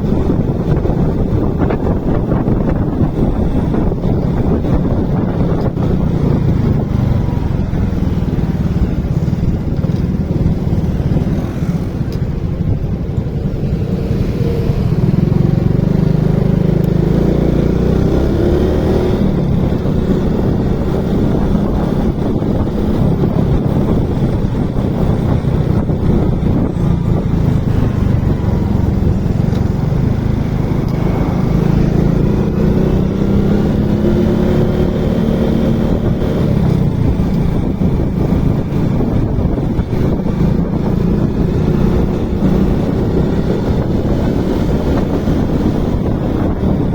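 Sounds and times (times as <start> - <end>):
steady low rush: 0.0 - 45.2
motorcycle engine revving: 0.0 - 46.9.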